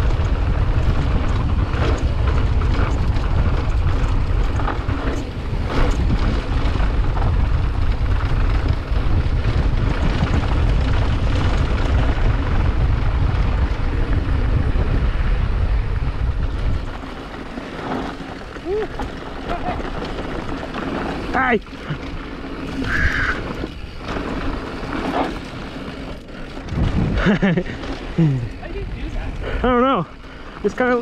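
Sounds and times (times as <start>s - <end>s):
moving vehicle rumble: 0.0s - 31.0s
wind buffeting microphone: 0.0s - 31.0s.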